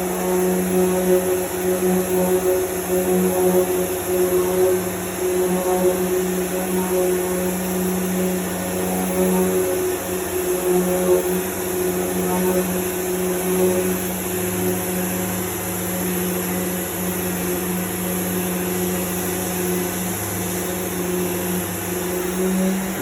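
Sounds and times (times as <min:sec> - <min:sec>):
sander humming with hiss: 0:00.0 - 0:23.0.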